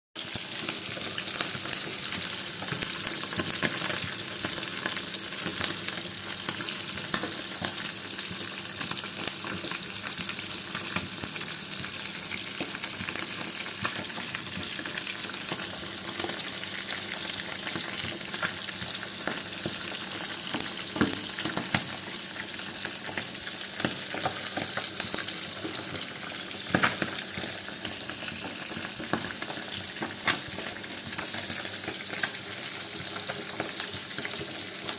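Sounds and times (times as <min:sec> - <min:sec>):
food sizzling in hot oil: 0:00.2 - 0:34.9.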